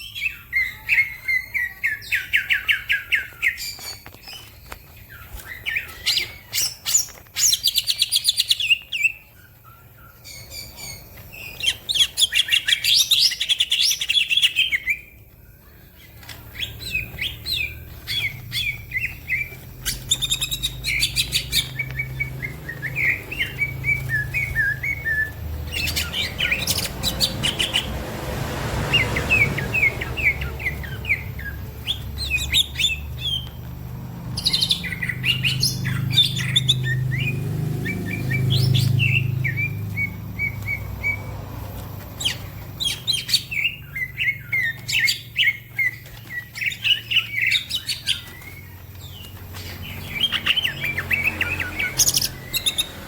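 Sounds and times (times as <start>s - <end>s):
bird chirping and trilling: 0.0s - 53.0s
other songbirds calling: 0.0s - 53.0s.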